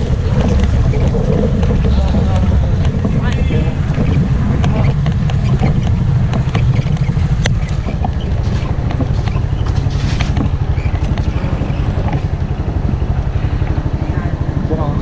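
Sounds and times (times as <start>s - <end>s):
small motorbike engine running: 0.0s - 15.0s
wind noise: 0.0s - 15.0s.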